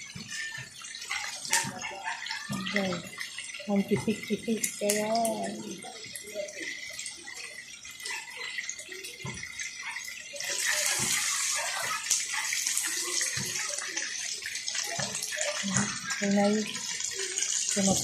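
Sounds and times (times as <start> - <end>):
sausages sizzling in oil: 0.0 - 18.0.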